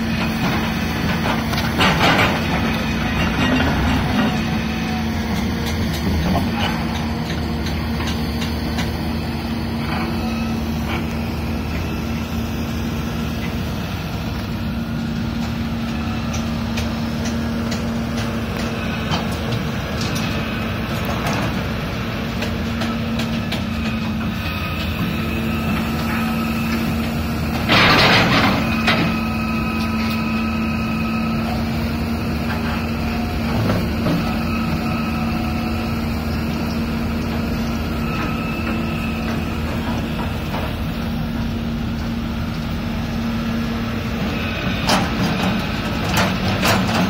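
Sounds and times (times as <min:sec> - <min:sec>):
excavator diesel engine running: 0:00.0 - 0:47.0
hydraulic whine: 0:00.0 - 0:47.0.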